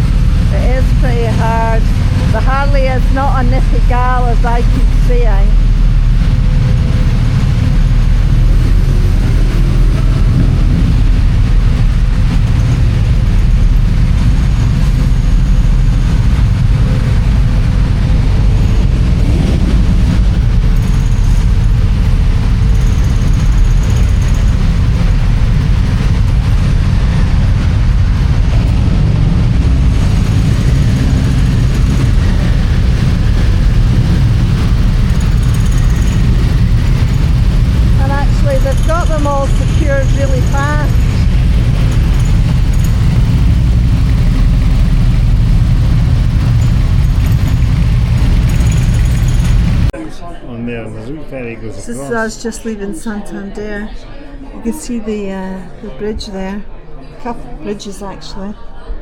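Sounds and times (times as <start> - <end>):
engines rumbling: 0.0 - 50.0.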